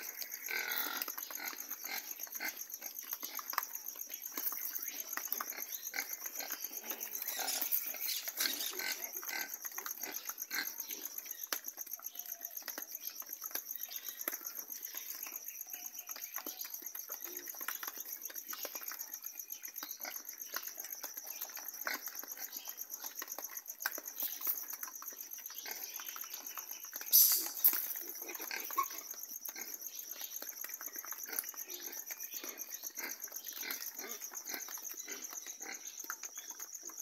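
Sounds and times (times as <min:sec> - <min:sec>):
piglets crunching and chewing: 0:00.1 - 0:37.0.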